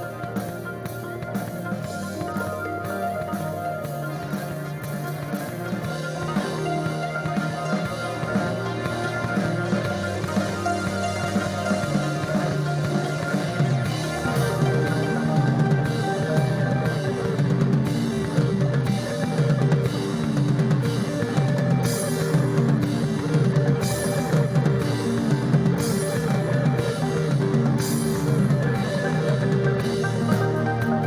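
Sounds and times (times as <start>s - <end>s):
bass notes: 0.0s - 31.0s
drum kit beat: 0.0s - 31.0s
electric guitar: 0.0s - 31.0s.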